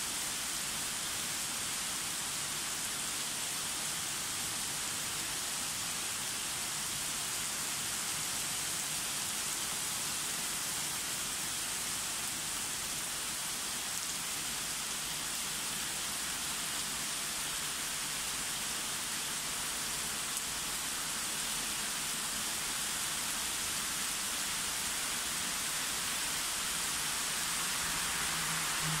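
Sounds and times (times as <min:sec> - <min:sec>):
heavy rain on street: 0:00.0 - 0:29.0.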